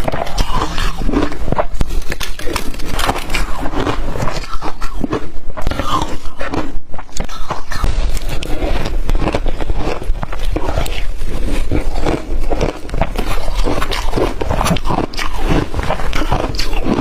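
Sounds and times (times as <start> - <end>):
crunching and chewing ice: 0.0 - 17.0.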